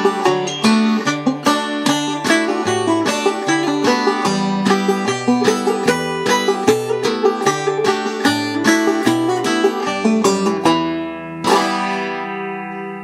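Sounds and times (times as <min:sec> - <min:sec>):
banjo picking: 0:00.0 - 0:13.0
strummed banjo chord: 0:00.0 - 0:13.0.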